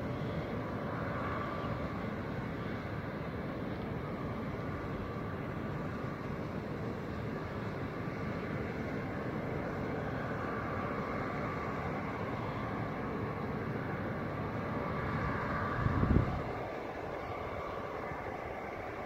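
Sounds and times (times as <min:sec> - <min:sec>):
distant engine drone: 0:00.0 - 0:19.0
faint steady hum: 0:00.0 - 0:19.0.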